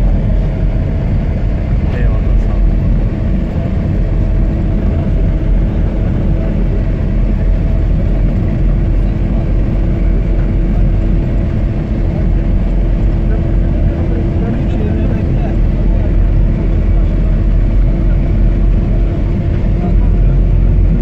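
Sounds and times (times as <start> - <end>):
held hum: 0.0 - 21.0
vehicle engine and road rumble: 0.0 - 21.0.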